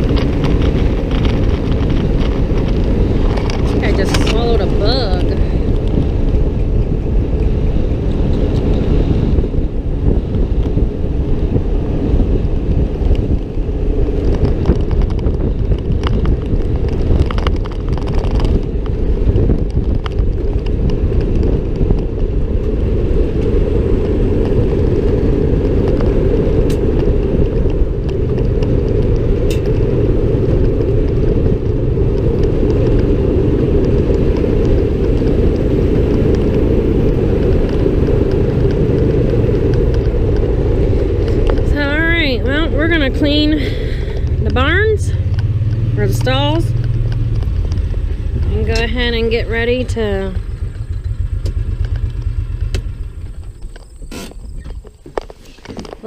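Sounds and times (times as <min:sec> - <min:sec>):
vehicle engine running: 0:00.0 - 0:56.0
wind and road noise: 0:00.0 - 0:56.0.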